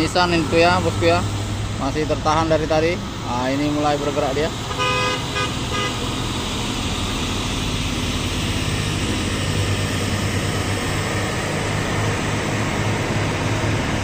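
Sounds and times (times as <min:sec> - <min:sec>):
diesel truck engine labouring: 0:00.0 - 0:14.0.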